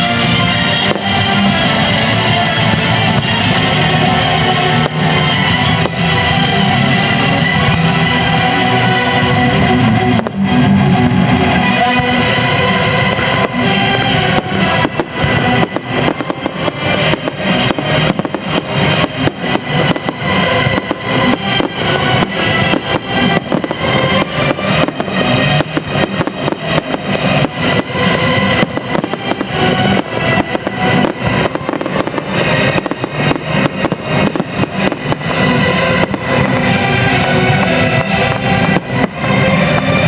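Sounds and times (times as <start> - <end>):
fireworks bangs and crackles: 0.0 - 40.0
loud music: 0.0 - 40.0.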